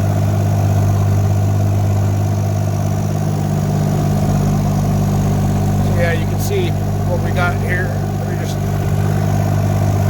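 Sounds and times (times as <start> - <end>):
excavator engine idling: 0.0 - 10.0.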